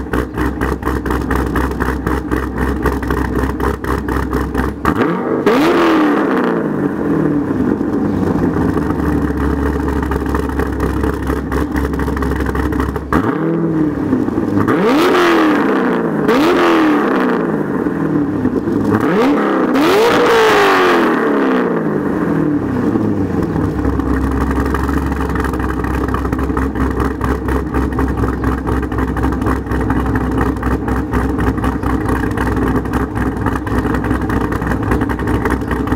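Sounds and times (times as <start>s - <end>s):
car engine idling: 0.0s - 19.7s, 21.4s - 35.9s.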